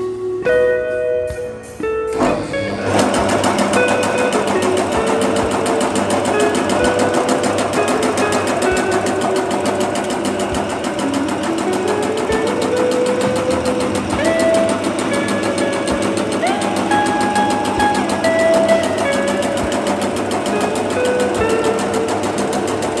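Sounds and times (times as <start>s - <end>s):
machine clattering: 2.2s - 23.0s.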